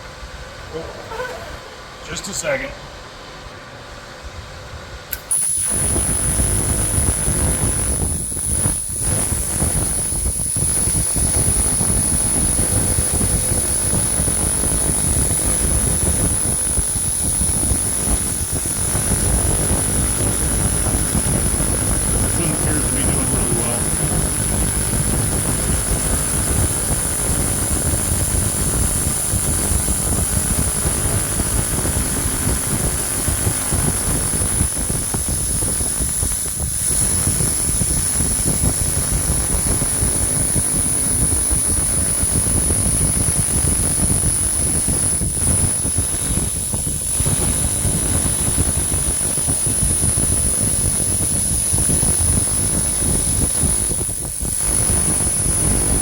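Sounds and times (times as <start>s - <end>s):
laser cleaner whine: 5.1s - 56.0s.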